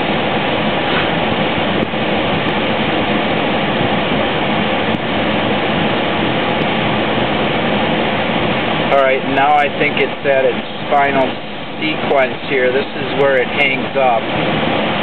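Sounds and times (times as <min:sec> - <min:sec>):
blower pushing air from vents: 0:00.0 - 0:15.0.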